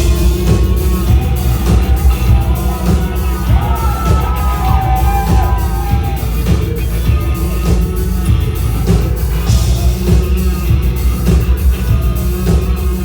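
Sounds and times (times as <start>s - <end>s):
audience whooping: 0.0s - 13.0s
live band playing: 0.0s - 13.0s
person singing: 0.0s - 13.0s.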